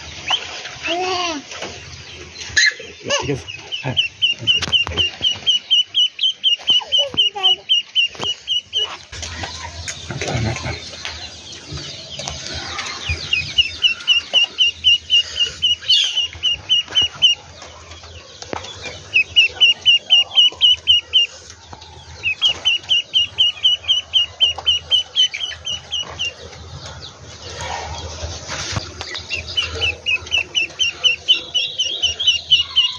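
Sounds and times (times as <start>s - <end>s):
duckling peeping: 0.1s - 0.8s, 1.5s - 32.9s.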